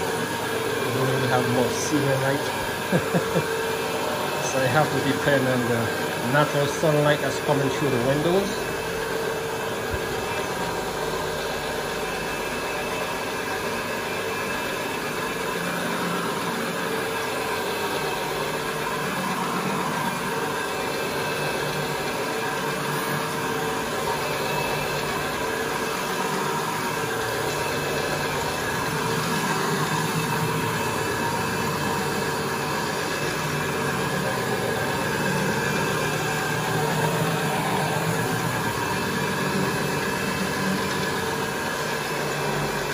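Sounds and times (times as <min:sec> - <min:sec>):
carpet machine motor humming: 0:00.0 - 0:42.9.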